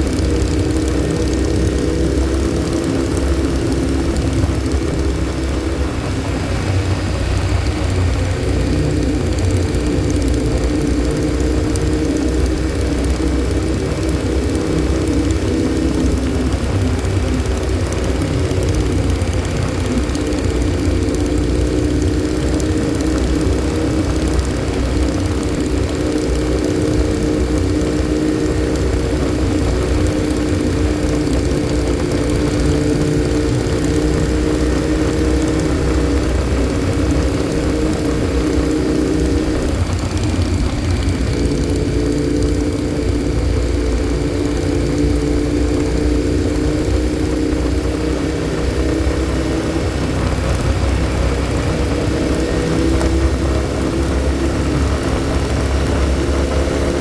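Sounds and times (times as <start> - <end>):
motorcycle engine droning: 0.0 - 57.0
wind and road noise: 0.0 - 57.0.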